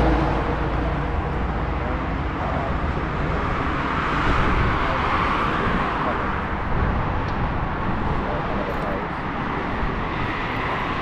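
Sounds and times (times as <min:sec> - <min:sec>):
car approaching: 0:00.0 - 0:11.0
road traffic noise: 0:00.0 - 0:11.0.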